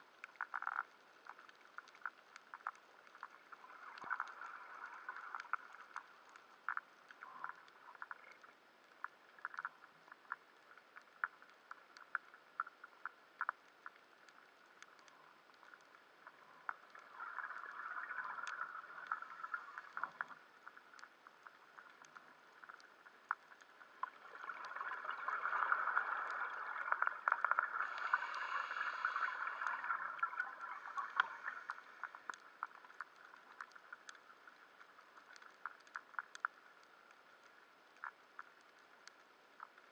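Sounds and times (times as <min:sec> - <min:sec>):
sharp underwater clicks: 0:00.0 - 0:39.9.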